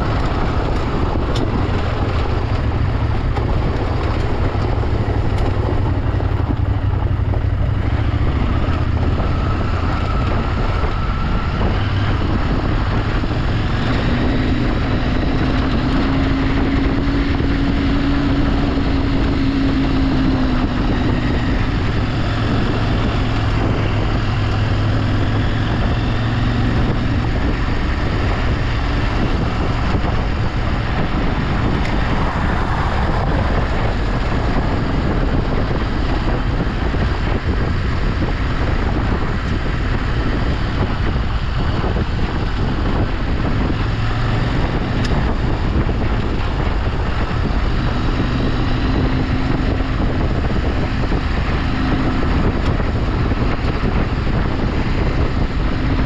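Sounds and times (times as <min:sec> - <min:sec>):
vehicle engine running: 0:00.0 - 0:56.0
wind noise on microphone: 0:00.0 - 0:56.0.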